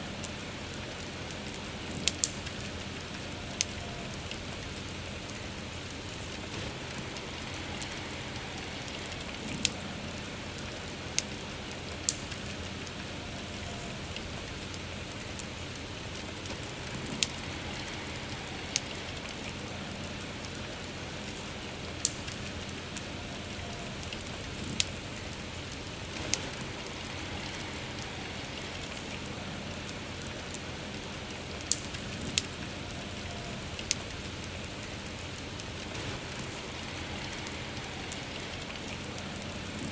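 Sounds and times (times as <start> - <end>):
crackling bonfire: 0.0 - 39.9
soft rain: 0.0 - 39.9.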